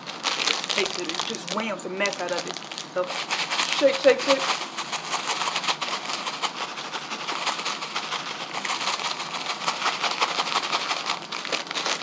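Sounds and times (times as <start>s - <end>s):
snack bag being shaken: 0.0s - 12.0s.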